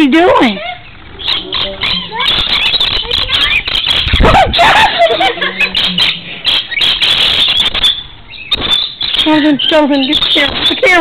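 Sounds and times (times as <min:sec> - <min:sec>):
lorikeets screeching and chattering: 0:00.0 - 0:11.0.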